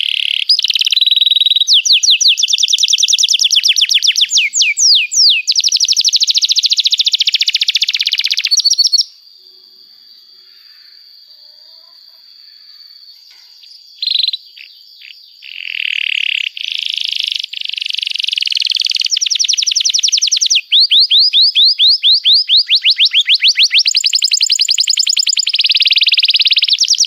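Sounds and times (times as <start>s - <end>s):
canary singing trills: 0.0s - 27.0s.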